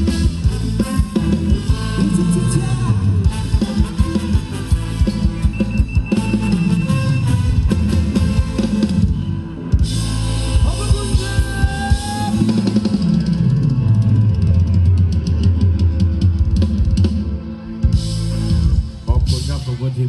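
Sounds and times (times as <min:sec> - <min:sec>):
live band dance music: 0:00.0 - 0:20.0.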